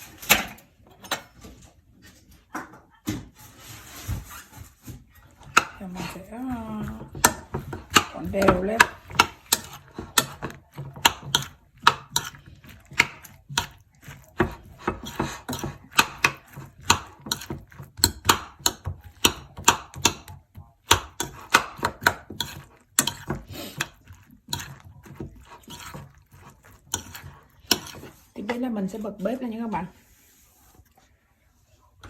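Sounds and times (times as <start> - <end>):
utensil scraping a bowl: 3.3 - 31.1.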